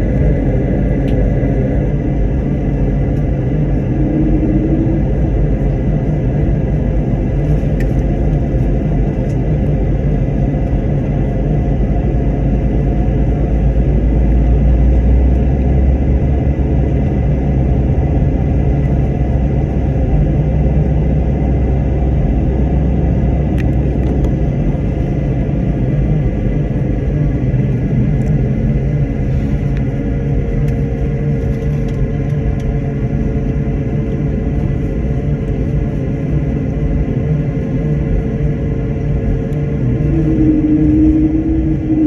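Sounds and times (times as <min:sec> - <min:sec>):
airliner cabin drone: 0:00.0 - 0:42.0
faint constant whine: 0:00.0 - 0:42.0.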